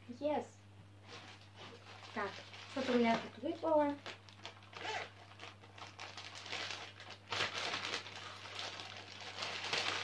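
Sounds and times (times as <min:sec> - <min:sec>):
plastic bag crinkling: 0:01.1 - 0:10.0.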